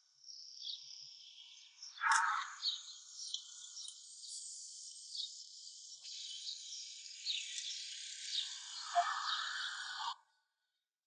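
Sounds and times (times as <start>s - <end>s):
bird chirps: 0.3s - 10.2s.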